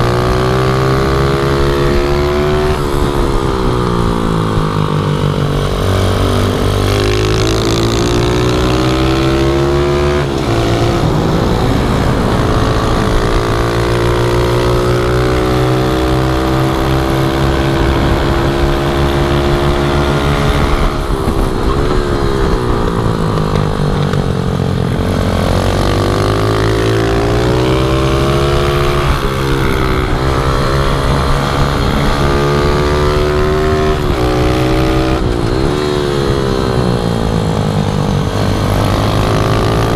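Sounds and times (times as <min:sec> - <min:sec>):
pitbike engine revving: 0:00.0 - 0:39.9.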